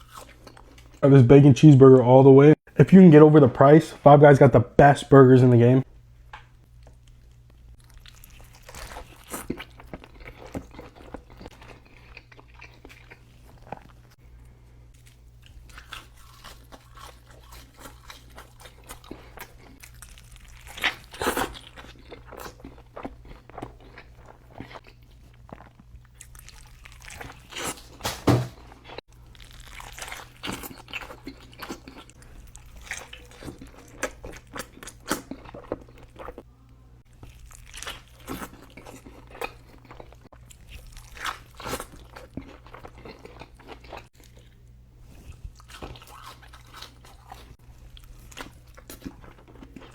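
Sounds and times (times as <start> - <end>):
close-miked chewing and crunching: 0.0 - 1.0, 6.4 - 49.9.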